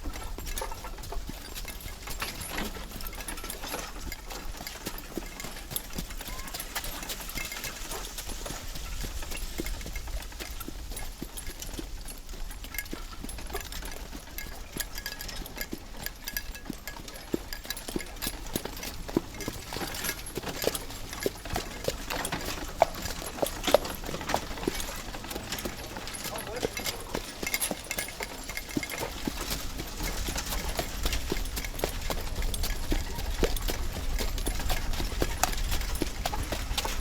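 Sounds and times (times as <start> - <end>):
hooves clip-clopping: 0.0 - 37.0.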